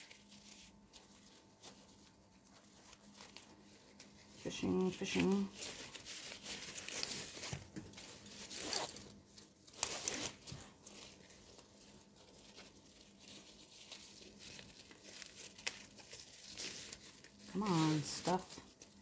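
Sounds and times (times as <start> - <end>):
fabric and straps rustling: 0.0 - 19.0.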